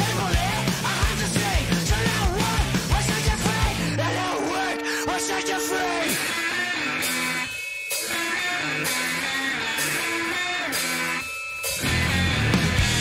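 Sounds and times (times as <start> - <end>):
bass guitar: 0.0 - 7.5, 8.1 - 13.0
staccato rock guitar riff: 0.0 - 13.0.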